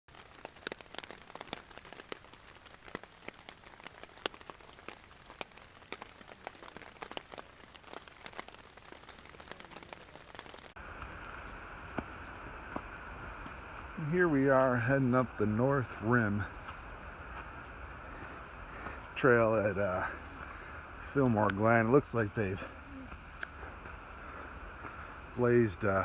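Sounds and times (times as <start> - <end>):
rain drops hitting a surface: 0.1 - 26.0.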